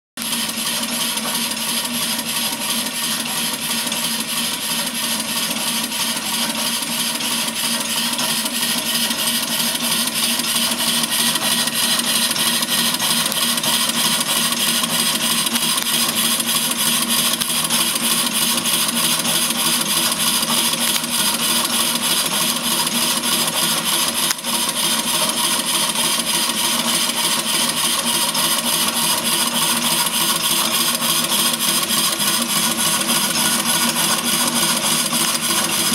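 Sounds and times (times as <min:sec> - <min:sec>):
model locomotive air exhaust hissing: 0:00.2 - 0:35.9.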